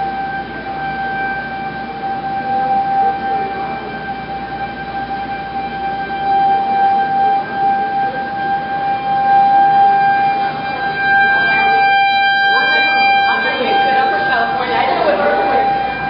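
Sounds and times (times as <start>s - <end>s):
warning siren steady tone: 0.0s - 16.0s.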